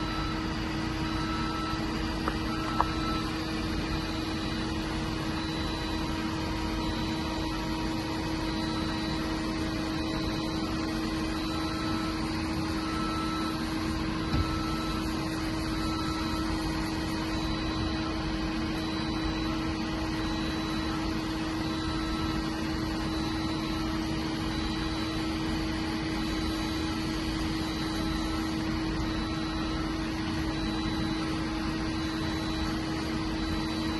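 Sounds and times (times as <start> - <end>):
faint high pulsing tone: 0.0 - 33.9.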